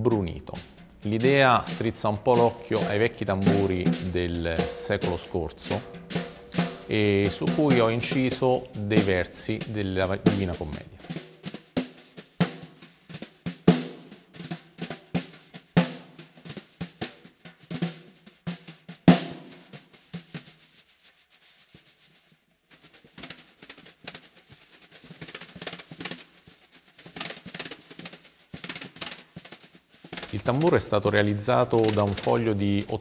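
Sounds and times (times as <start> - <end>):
snare drum strokes: 0.0 - 33.0.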